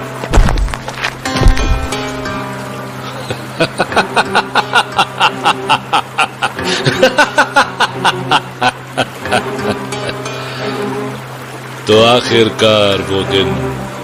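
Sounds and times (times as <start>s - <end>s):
low drone: 0.0s - 14.0s.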